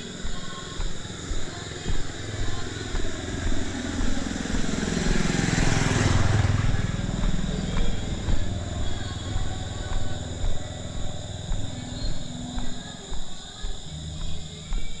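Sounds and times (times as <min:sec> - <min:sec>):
vehicle engine running: 0:00.0 - 0:13.8.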